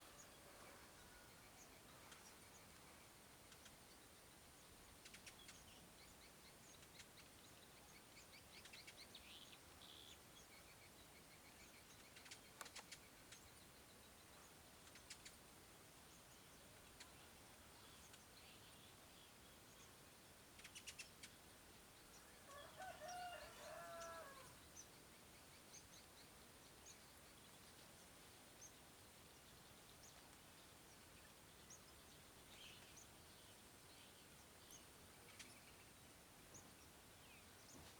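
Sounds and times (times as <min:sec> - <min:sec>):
faint birdsong: 0:00.0 - 0:37.9.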